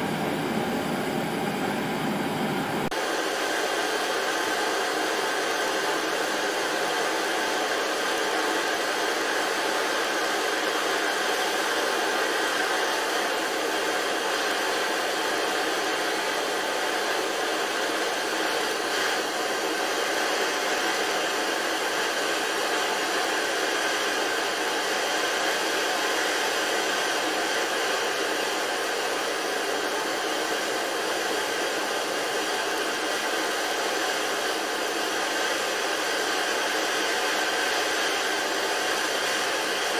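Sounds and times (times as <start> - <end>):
gas torches hissing: 0.0 - 39.9.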